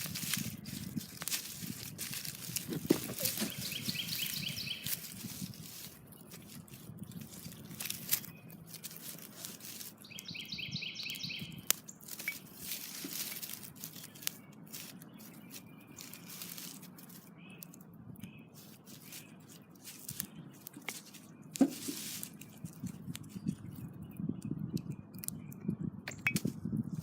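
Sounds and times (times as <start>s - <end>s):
bird chirping: 0.0s - 21.6s, 22.2s - 26.4s.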